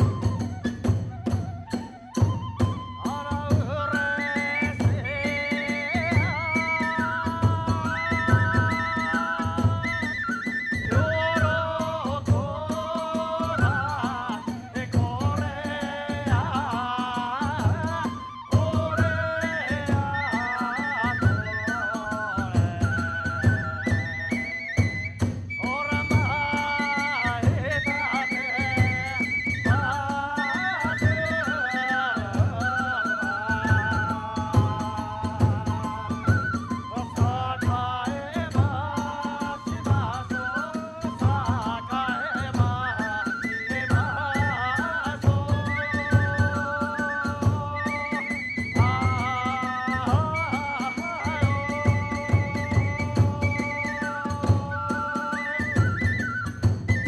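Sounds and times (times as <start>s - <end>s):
bamboo flute melody: 0.0s - 57.0s
drum beats: 0.0s - 57.0s.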